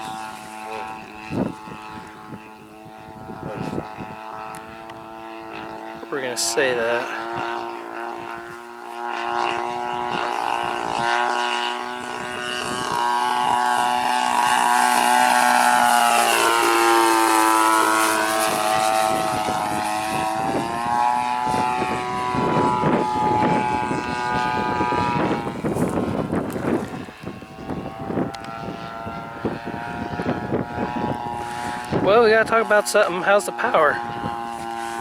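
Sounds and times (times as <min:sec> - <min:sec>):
model airplane engine droning: 0:00.0 - 0:35.0.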